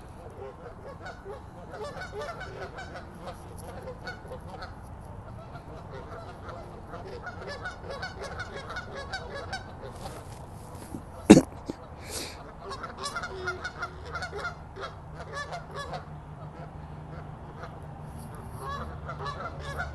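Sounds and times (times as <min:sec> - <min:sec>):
geese honking: 0:00.0 - 0:19.9.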